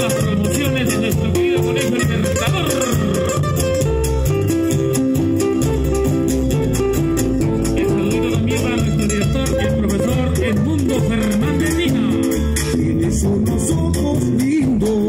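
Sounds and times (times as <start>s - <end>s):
acoustic guitars plucking melody: 0.0s - 15.0s
cajon beat: 0.0s - 15.0s
electric bass line: 0.0s - 15.0s
rattling percussion: 0.0s - 15.0s.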